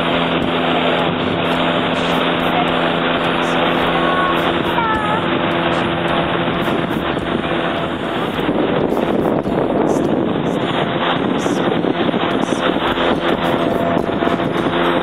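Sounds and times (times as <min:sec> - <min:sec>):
outboard motor running: 0:00.0 - 0:15.0
wind: 0:00.0 - 0:15.0.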